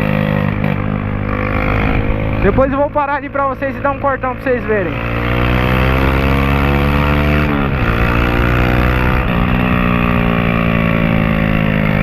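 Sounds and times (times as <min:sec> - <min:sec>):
loud motorcycle engine: 0:00.0 - 0:12.0.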